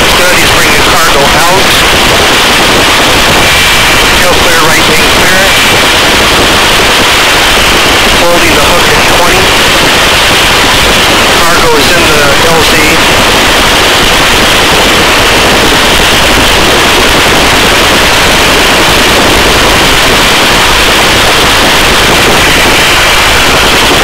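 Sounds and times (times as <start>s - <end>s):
helicopter hovering: 0.0s - 24.0s.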